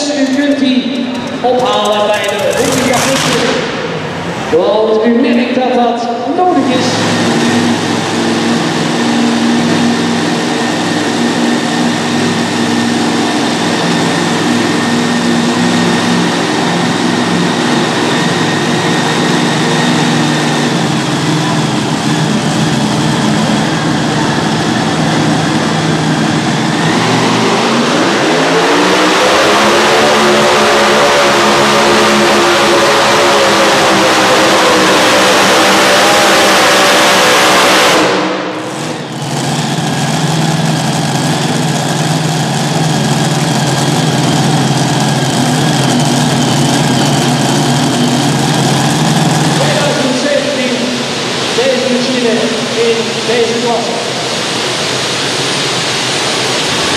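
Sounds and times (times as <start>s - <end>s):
tractor engines idling and revving: 0.0s - 56.9s.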